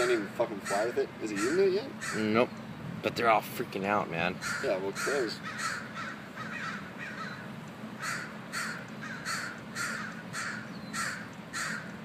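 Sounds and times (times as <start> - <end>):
crows cawing: 0.0 - 2.4, 4.3 - 12.0.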